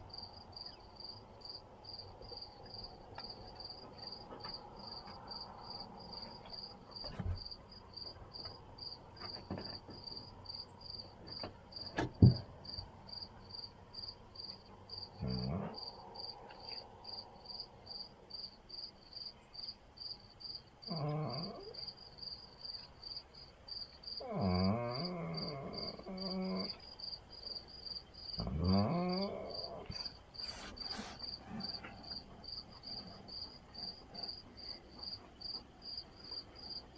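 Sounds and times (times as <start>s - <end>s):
crickets chirping: 0.0s - 36.9s.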